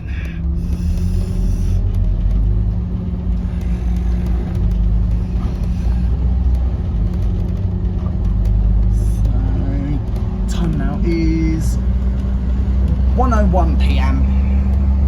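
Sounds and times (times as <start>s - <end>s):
bus engine droning: 0.0s - 15.0s
road rumble: 0.0s - 15.0s.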